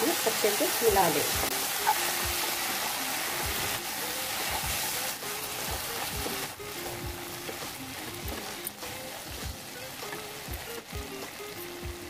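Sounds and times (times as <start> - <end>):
background music with melody: 0.0 - 12.0
food frying and sizzling: 0.0 - 12.0.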